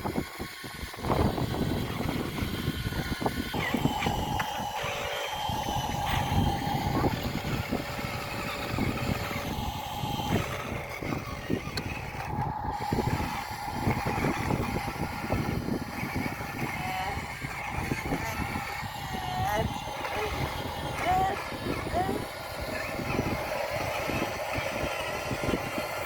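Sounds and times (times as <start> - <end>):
small electric motor whining: 0.0 - 26.0.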